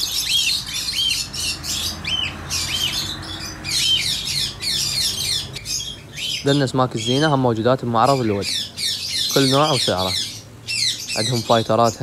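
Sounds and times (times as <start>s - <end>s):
cockatiels squawking: 0.0s - 12.0s
high chatter of cage birds: 0.0s - 12.0s.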